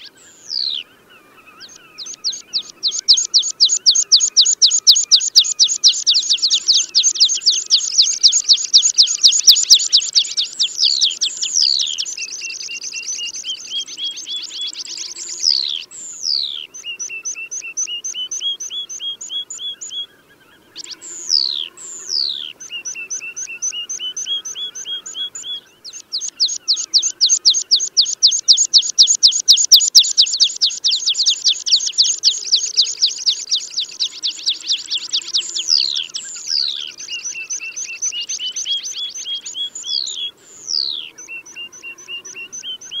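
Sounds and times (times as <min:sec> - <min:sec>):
fast loud repeated bird notes: 0:01.7 - 0:20.0, 0:20.7 - 0:43.0
pipit song with trills and whistles: 0:01.7 - 0:20.1, 0:20.7 - 0:43.0.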